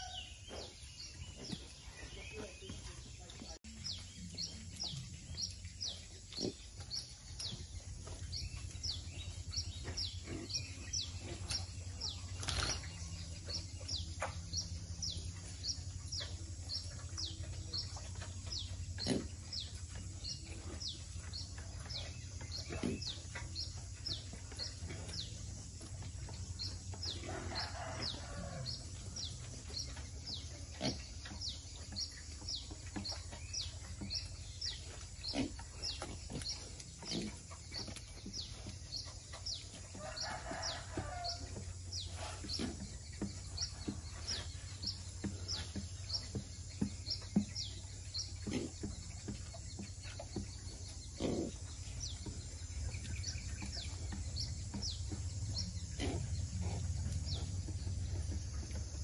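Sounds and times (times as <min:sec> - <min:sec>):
steady low hum: 0:00.4 - 0:59.0
small bird chirping: 0:03.5 - 0:25.4, 0:29.2 - 0:59.0.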